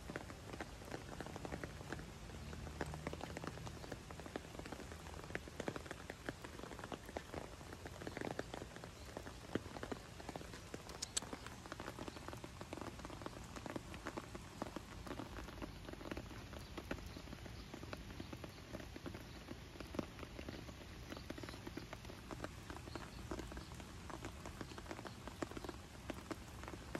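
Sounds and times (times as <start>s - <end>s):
rain on wet pavement: 0.0s - 26.9s.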